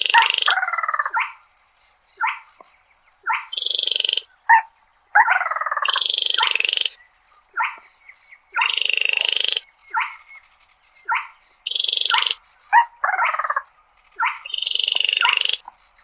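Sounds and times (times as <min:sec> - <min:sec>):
crake rattling calls: 0:00.0 - 0:16.0.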